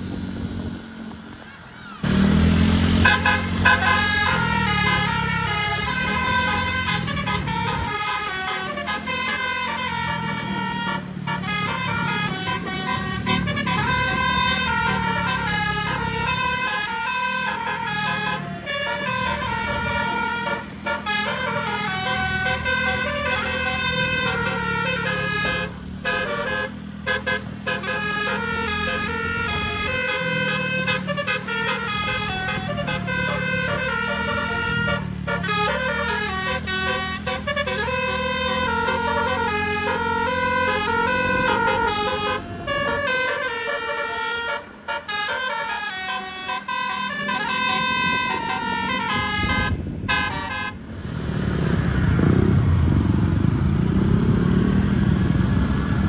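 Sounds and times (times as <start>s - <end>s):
bus engine running: 0.0s - 56.0s
musical air horn melody: 2.9s - 50.8s.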